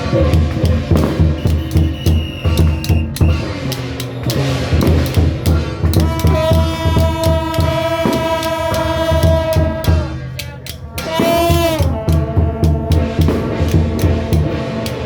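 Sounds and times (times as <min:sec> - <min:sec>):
steady drumming: 0:00.0 - 0:15.0
loud wind instrument note: 0:01.2 - 0:15.0.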